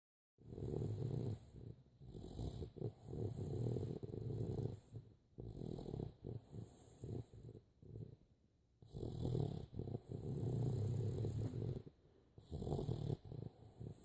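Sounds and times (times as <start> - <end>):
dog snoring: 0.4 - 14.0.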